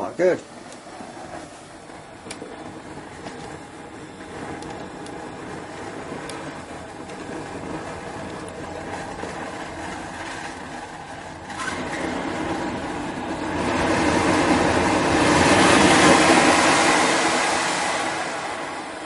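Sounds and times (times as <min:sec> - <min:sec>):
hair dryer rushing: 0:00.6 - 0:19.0.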